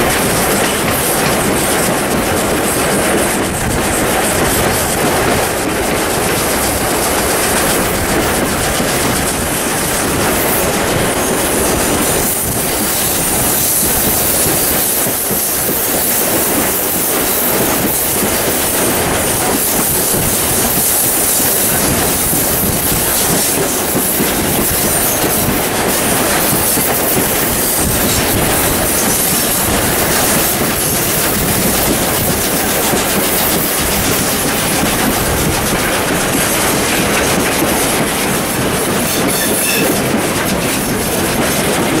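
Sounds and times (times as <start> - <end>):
steam locomotive exhaust beating: 0.0 - 42.0
train wheels clattering over rail joints: 0.0 - 42.0.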